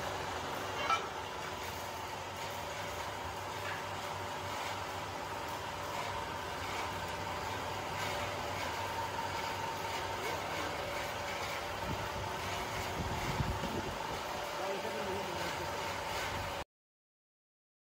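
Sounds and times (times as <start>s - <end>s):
machine humming with whine: 0.0s - 16.6s.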